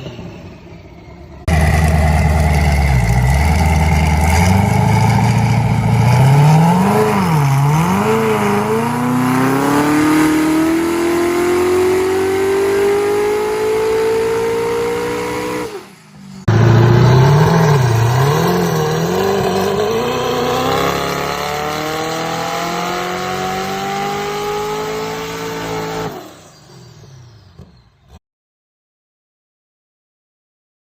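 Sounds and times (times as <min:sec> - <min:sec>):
truck engine revving: 0:00.0 - 0:27.8
truck accelerating away: 0:00.0 - 0:28.2.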